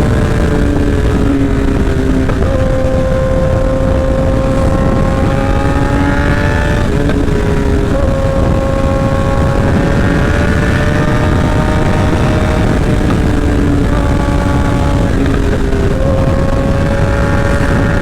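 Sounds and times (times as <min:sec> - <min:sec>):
motorcycle engine at speed: 0:00.0 - 0:18.0
wind rush on microphone: 0:00.0 - 0:18.0.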